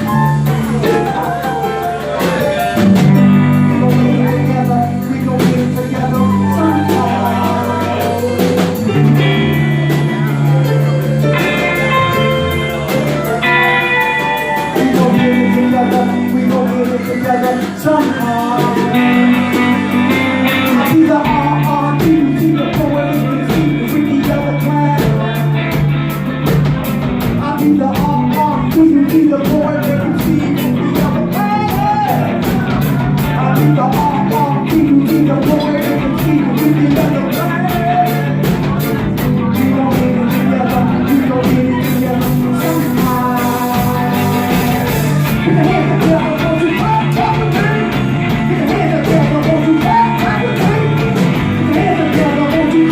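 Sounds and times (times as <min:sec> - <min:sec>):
rock music with singing: 0:00.0 - 0:52.9.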